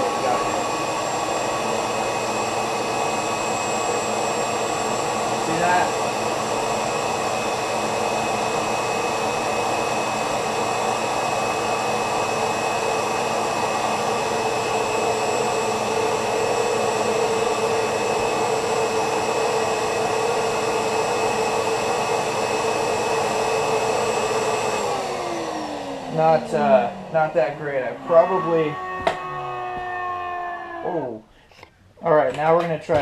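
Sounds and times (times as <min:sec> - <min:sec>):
shop vacuum running: 0:00.0 - 0:31.2.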